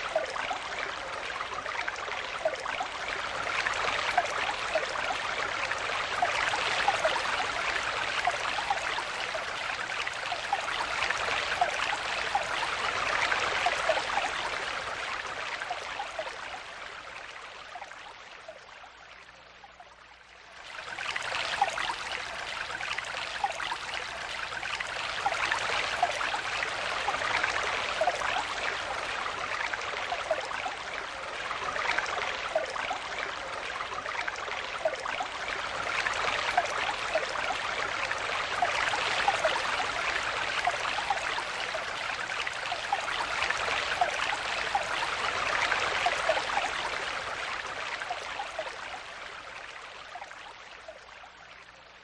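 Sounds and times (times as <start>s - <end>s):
stream water babbling: 0.0s - 52.0s.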